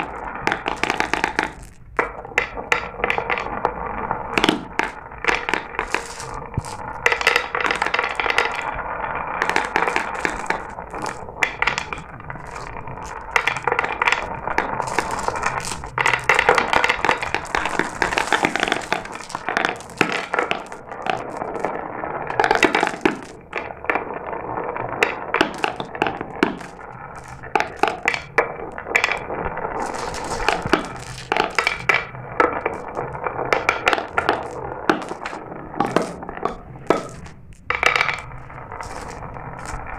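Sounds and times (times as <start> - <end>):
marbles clicking and clacking: 0.0 - 3.6, 4.3 - 24.1, 24.9 - 39.9
glass marbles rolling rattle: 0.0 - 39.9.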